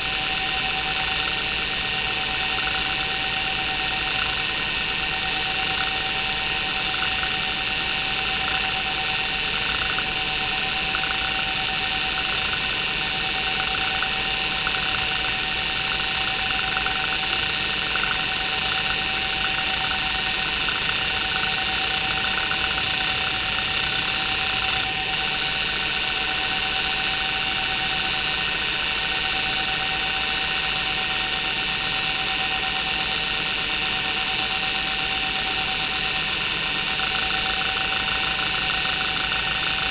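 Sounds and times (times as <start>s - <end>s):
hard drive seek chatter: 1.8s - 28.2s, 31.6s - 39.9s.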